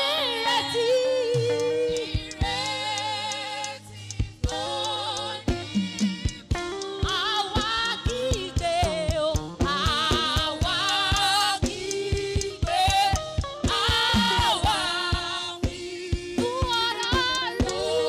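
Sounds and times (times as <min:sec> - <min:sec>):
women singing gospel in harmony: 0:00.0 - 0:18.0
percussion beat: 0:00.7 - 0:18.0.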